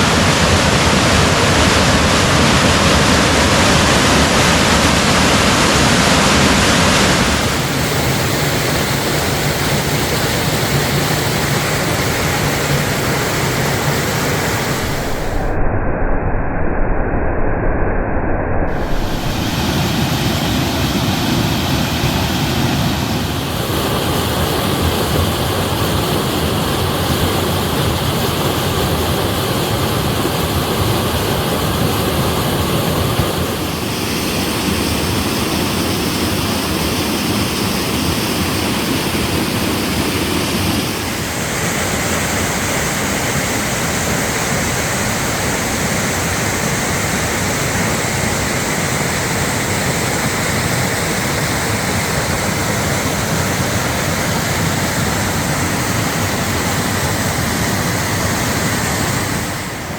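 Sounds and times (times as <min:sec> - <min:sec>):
waterfall rushing: 0:00.0 - 0:15.6, 0:18.7 - 0:59.9.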